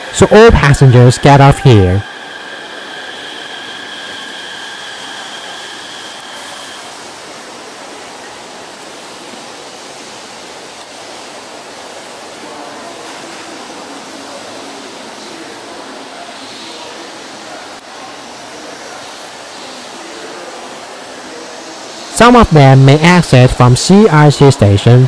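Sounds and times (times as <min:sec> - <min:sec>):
steady high whine: 0:00.0 - 0:25.0
low murmur of voices: 0:01.5 - 0:22.2.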